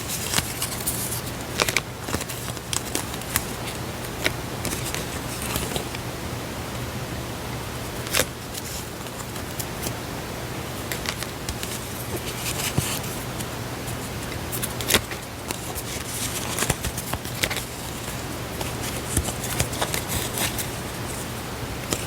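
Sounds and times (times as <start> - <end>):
paper handling clicks and rustles: 0.0 - 6.0, 7.8 - 10.0, 10.7 - 22.0
steady hiss and hum: 0.0 - 22.0.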